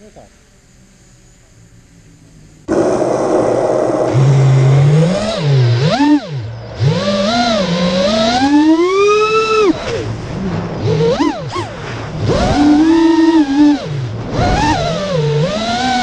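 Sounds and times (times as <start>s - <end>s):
quadcopter motors whining: 0.0s - 10.2s, 10.8s - 16.0s.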